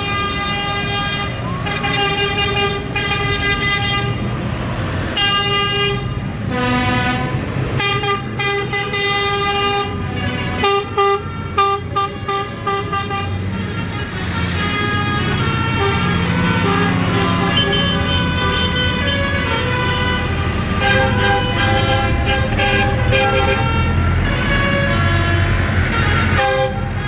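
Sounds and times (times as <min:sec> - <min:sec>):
vehicle horns tooting: 0:00.0 - 0:04.3, 0:05.1 - 0:27.0
lorry and tractor engines rumbling: 0:00.0 - 0:27.0.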